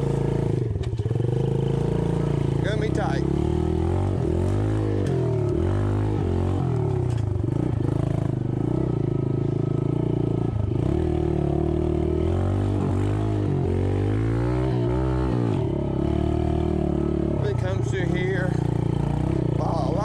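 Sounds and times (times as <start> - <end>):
diesel engine running hard: 0.0 - 20.0.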